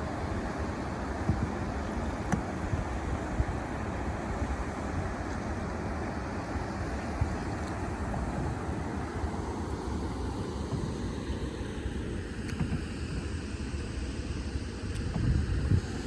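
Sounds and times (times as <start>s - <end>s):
water around a canoe: 0.0s - 16.0s
wind rumbling on microphone: 0.0s - 16.0s.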